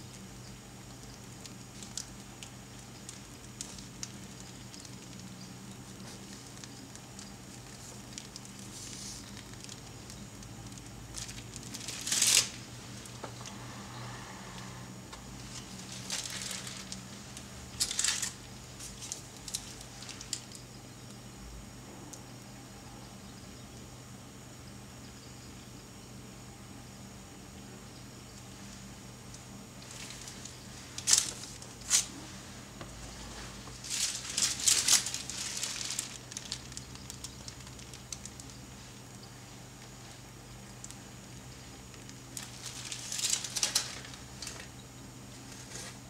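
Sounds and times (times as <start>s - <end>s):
plastic piping bag crinkling: 0.0s - 14.0s, 14.6s - 21.1s, 28.5s - 46.0s
low steady hum: 0.0s - 46.0s.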